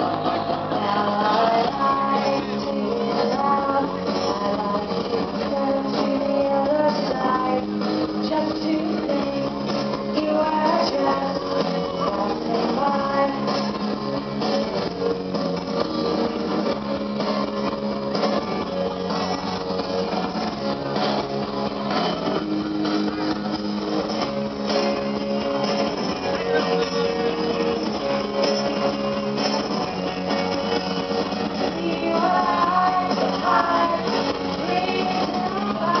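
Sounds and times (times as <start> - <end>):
guitar-led song: 0.0 - 36.0.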